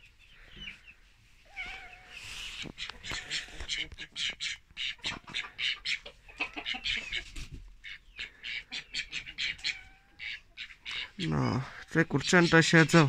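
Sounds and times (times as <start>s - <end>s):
ducks quacking: 2.3s - 13.0s.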